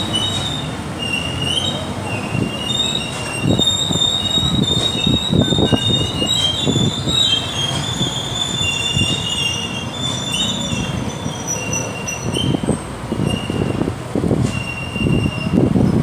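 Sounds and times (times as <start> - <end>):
high-pitched wavering squeal: 0.0 - 13.8.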